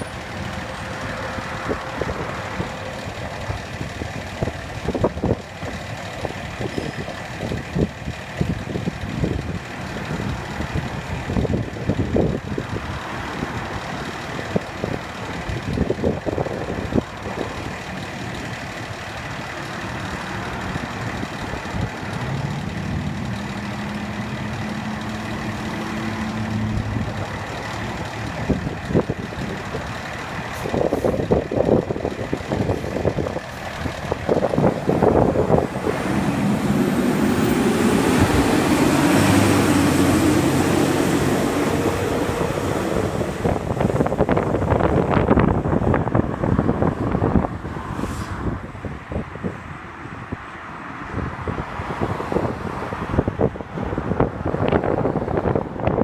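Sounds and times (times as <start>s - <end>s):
truck diesel engine: 0.0s - 56.0s.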